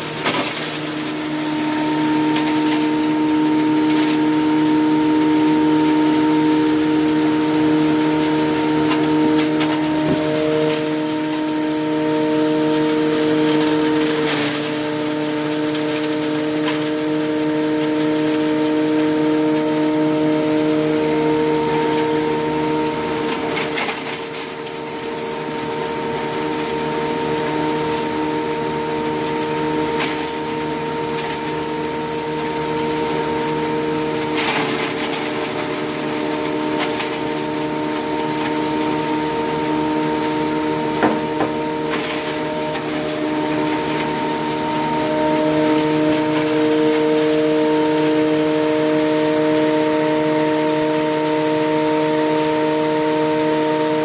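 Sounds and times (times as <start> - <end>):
hammer mill grinding wood: 0.0 - 54.0.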